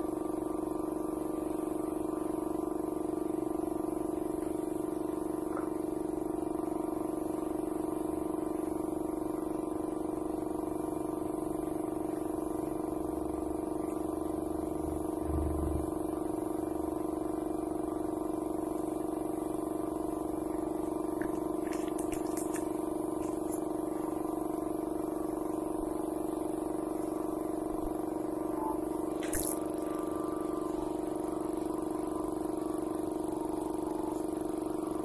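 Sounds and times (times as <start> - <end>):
air compressor humming: 0.0 - 35.0.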